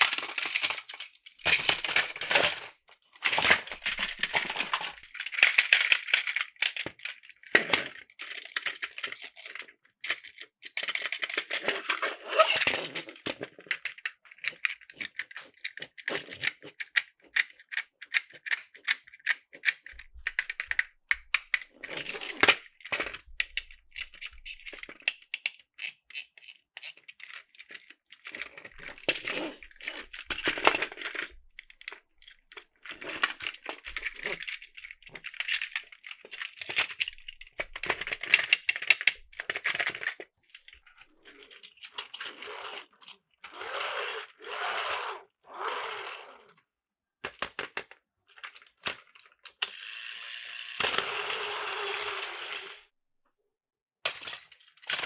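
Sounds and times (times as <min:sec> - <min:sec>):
plastic toy train cars clattering: 0:00.0 - 0:45.1, 0:45.8 - 0:52.8, 0:54.0 - 0:55.0.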